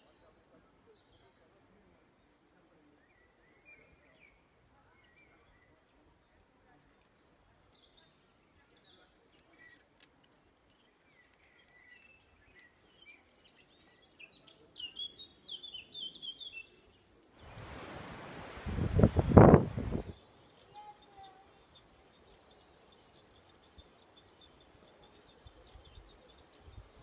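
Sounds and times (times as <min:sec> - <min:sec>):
small birds chirping: 0:00.0 - 0:17.9, 0:18.6 - 0:27.0.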